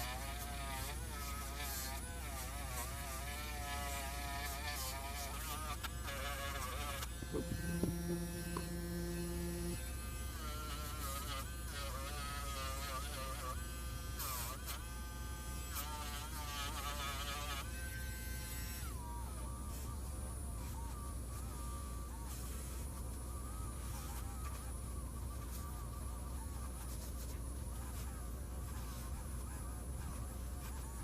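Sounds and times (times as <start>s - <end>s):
rotary tool whining: 0.0s - 31.0s.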